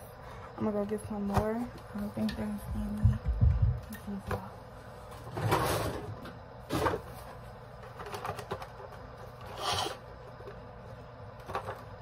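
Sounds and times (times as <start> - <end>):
room ventilation hum: 0.0 - 12.0.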